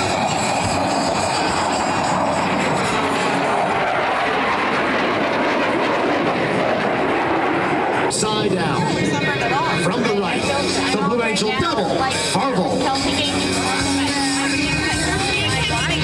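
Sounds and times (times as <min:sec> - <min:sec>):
jet roaring past: 0:00.0 - 0:16.0.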